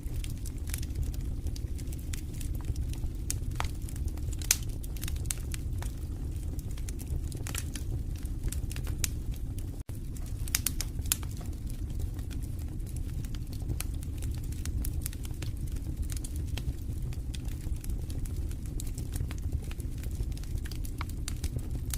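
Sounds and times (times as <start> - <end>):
fire crackles and pops: 0.0 - 21.9
rumble of fire flames: 0.0 - 21.9.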